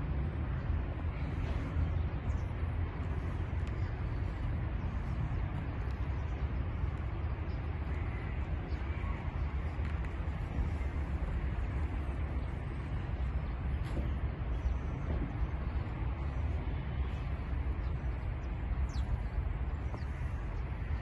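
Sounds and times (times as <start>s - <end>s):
faint distant activity: 0.0s - 21.0s.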